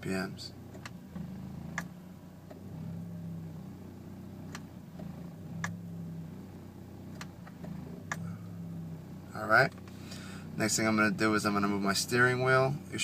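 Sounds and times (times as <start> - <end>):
car engine idling unevenly: 0.0 - 13.0
window motor straining: 0.6 - 11.2.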